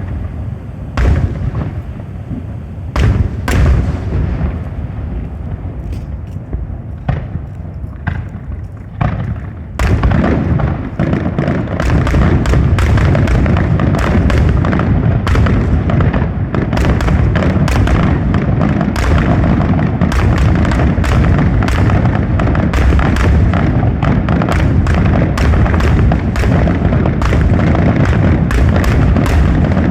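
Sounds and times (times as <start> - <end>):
fireworks booming and crackling: 0.0 - 29.9.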